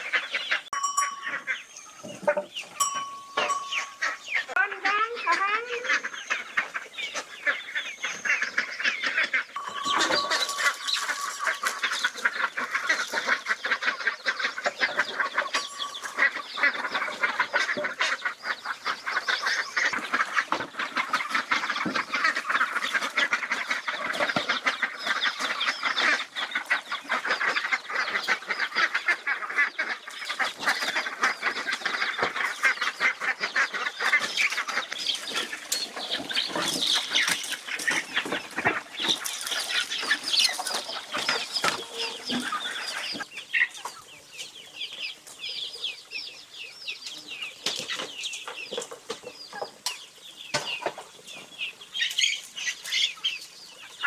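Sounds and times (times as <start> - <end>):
poultry flock calling: 0.0 - 54.0.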